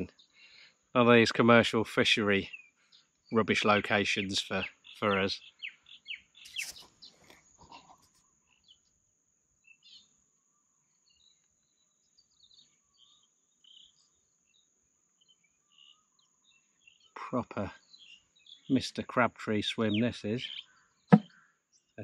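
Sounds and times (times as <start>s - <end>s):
faint bird chirps: 2.4s - 8.9s, 9.6s - 18.8s, 19.8s - 22.0s.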